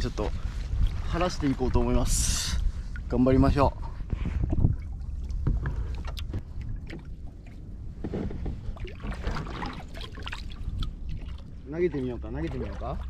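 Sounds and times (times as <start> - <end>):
water lapping against kayak hull: 0.2 - 13.0.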